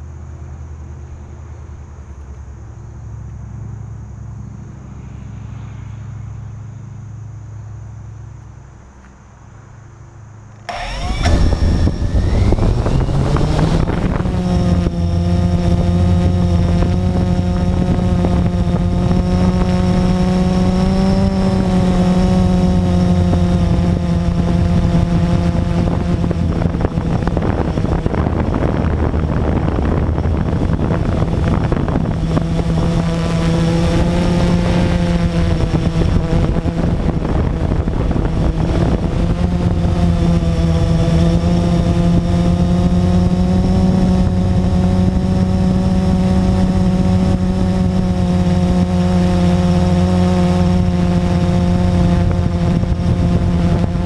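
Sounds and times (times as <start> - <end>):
quadcopter motors buzzing: 10.5 - 54.0.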